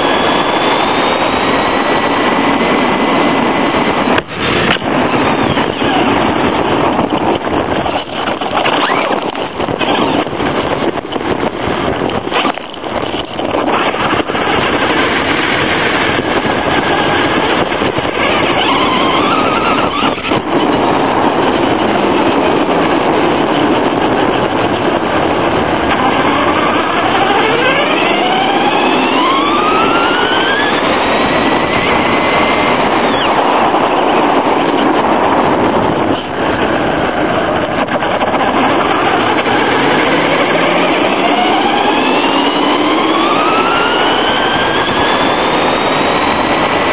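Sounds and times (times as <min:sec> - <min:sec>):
electric motor whining: 0:00.0 - 0:02.6, 0:04.2 - 0:20.9, 0:24.4 - 0:34.9, 0:38.4 - 0:46.9
road and wind noise: 0:00.0 - 0:46.9.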